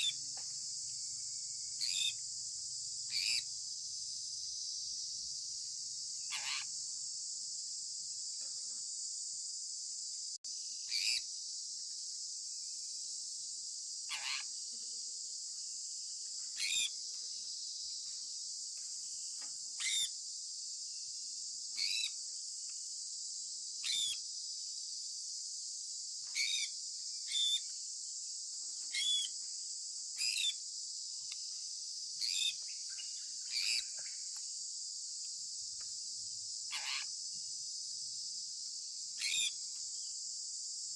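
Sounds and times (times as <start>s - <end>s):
steady high-pitched hiss: 0.0s - 40.9s.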